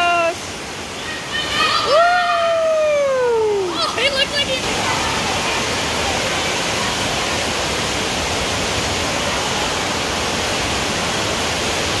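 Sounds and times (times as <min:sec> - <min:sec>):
water rushing down slides: 0:00.0 - 0:12.0.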